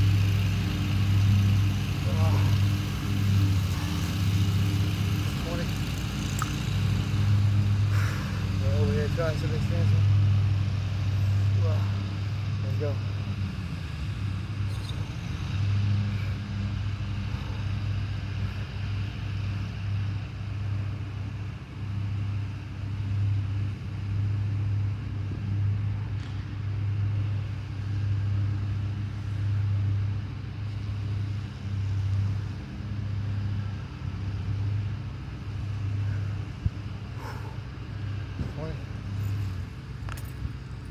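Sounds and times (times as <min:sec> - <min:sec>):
lawn mower engine running: 0:00.0 - 0:25.6, 0:27.0 - 0:40.9.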